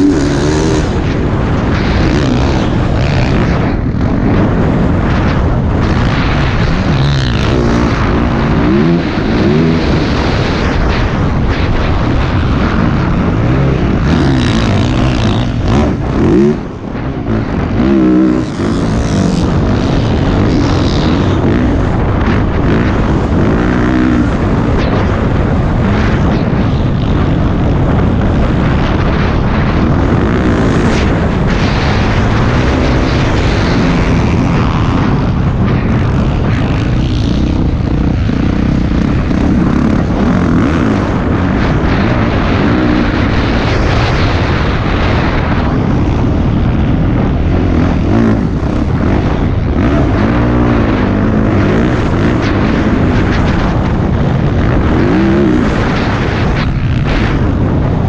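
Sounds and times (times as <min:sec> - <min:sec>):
constant rushing noise: 0:00.0 - 0:58.0
dirt bike engine revving: 0:00.0 - 0:58.0.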